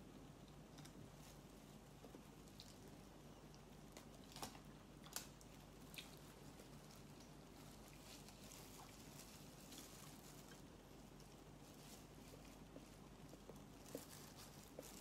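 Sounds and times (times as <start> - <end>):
chewing: 0.4 - 15.0.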